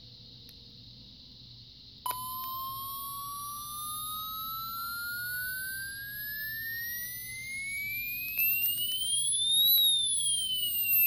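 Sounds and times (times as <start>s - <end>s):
rising alert tone: 2.1s - 11.0s.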